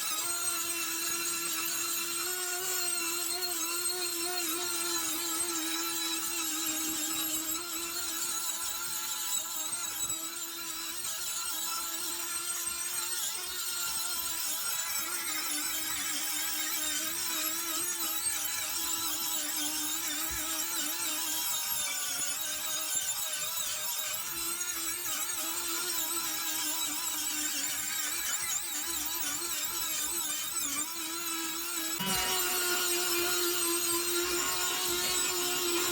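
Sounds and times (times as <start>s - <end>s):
power tool grinding steel: 0.0s - 23.6s, 24.2s - 35.9s.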